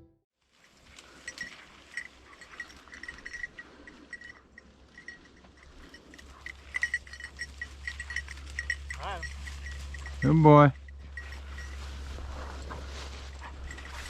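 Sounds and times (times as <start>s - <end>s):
faint rustling: 0.5s - 14.0s
dog collar bell jingling: 0.6s - 14.0s.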